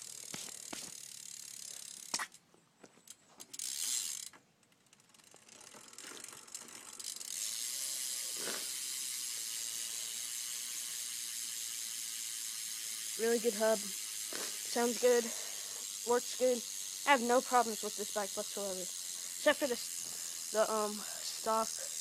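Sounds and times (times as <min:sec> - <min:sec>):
bike hub ratchet clicking: 0:00.0 - 0:02.4, 0:03.0 - 0:22.0.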